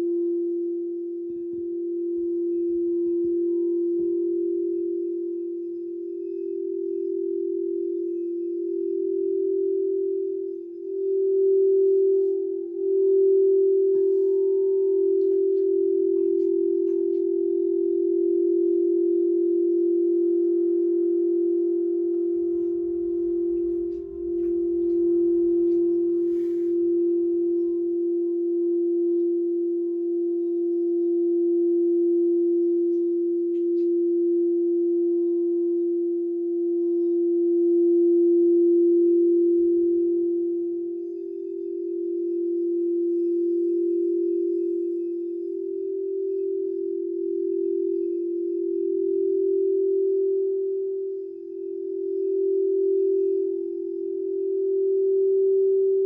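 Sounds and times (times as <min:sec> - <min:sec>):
singing bowl low tone: 0:00.0 - 0:56.0.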